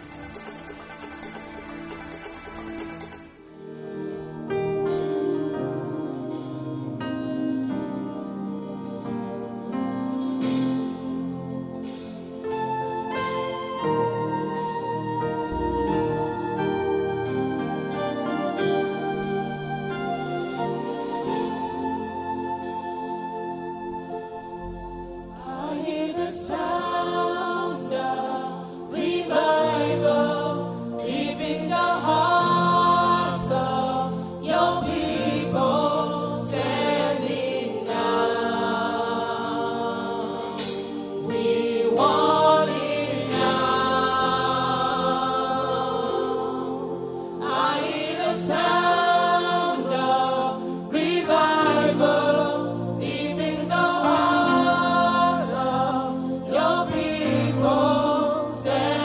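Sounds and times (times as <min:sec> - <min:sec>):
instrumental backing: 0:00.0 - 0:59.0
gospel choir singing: 0:03.4 - 0:59.0.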